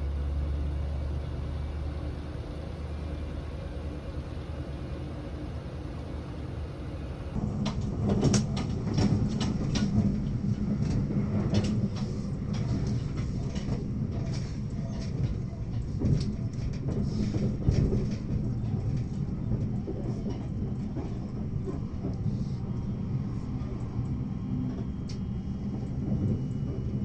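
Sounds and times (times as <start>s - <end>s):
vehicle rumbling: 0.0s - 27.0s.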